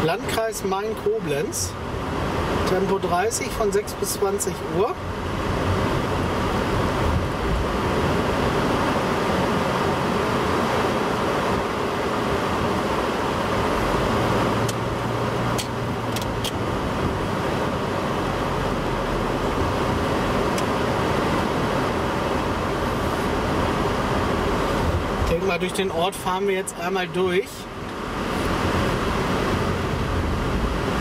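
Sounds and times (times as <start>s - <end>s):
tyre and road noise: 0.0s - 31.0s
car engine running: 4.5s - 31.0s.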